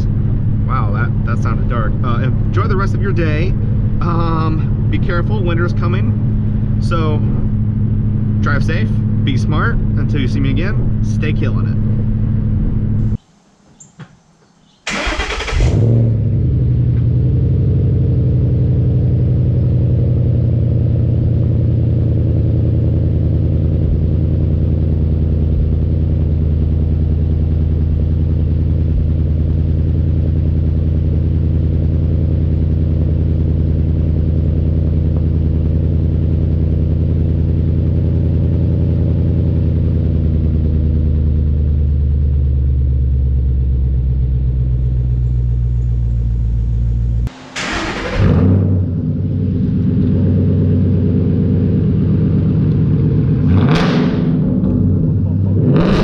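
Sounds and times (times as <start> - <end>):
car engine idling: 0.0 - 13.2, 14.2 - 56.0.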